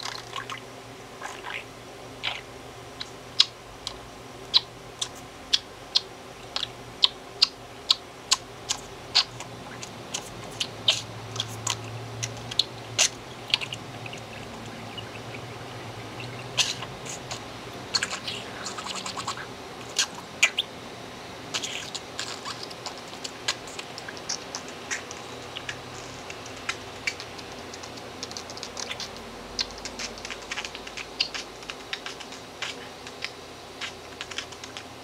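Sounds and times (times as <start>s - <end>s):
budgerigar clicking: 0.0s - 20.7s, 21.5s - 35.0s.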